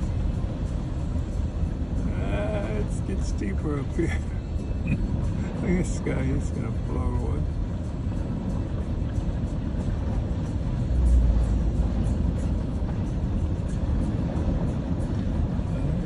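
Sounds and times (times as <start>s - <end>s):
car driving through water: 0.0s - 16.0s.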